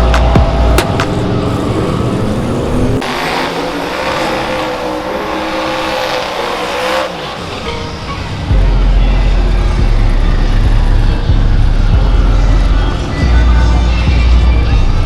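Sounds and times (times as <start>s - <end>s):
truck engines running loudly: 0.0s - 15.0s.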